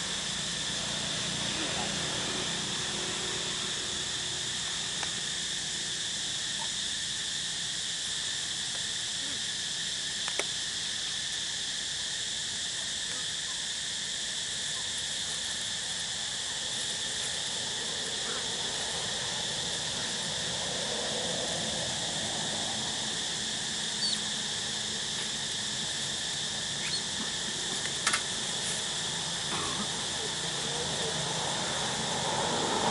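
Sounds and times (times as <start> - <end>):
insect chorus drone: 0.0 - 32.9.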